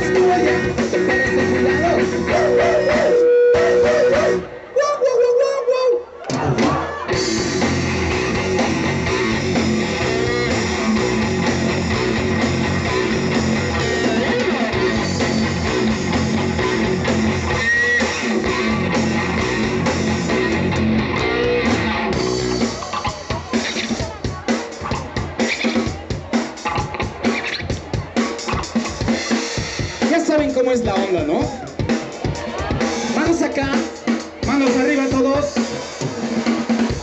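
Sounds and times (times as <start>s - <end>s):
live rock band playing: 0.0s - 4.8s, 6.3s - 37.0s.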